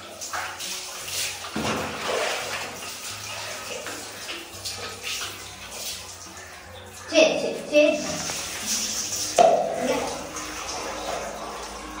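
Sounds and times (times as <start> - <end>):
water splashing and pouring: 0.0 - 12.0.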